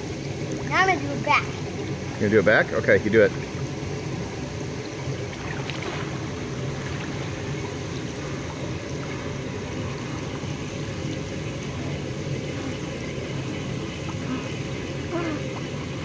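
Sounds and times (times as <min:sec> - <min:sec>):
pool water churning and bubbling: 0:00.0 - 0:16.0.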